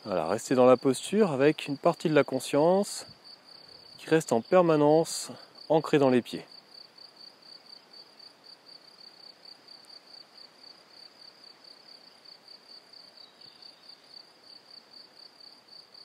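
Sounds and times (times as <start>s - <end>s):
faint cricket chirping: 0.0s - 16.0s.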